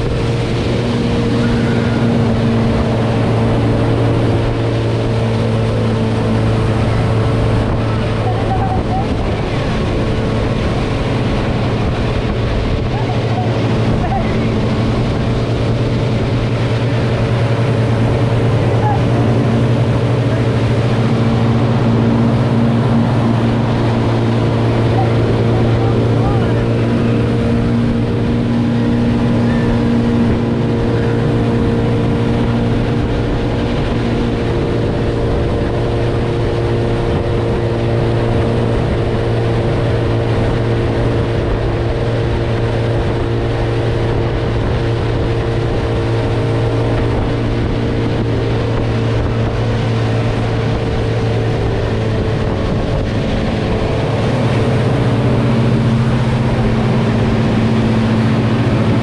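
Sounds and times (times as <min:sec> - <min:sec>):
hull washing through water: 0:00.0 - 0:59.0
motorboat engine running: 0:00.0 - 0:59.0.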